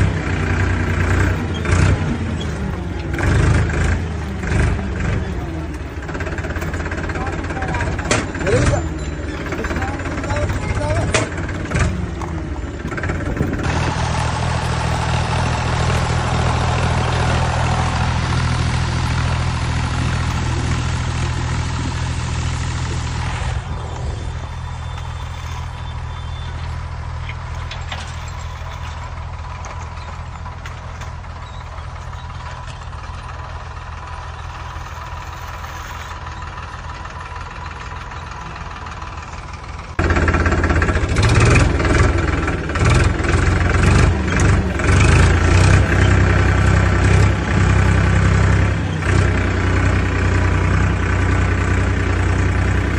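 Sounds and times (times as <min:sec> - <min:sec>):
low engine-like idling drone: 0:00.0 - 0:52.9.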